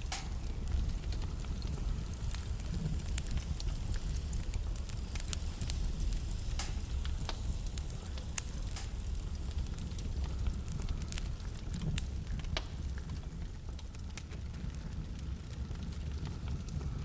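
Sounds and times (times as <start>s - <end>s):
wood fire crackling in fireplace: 0.0s - 17.0s.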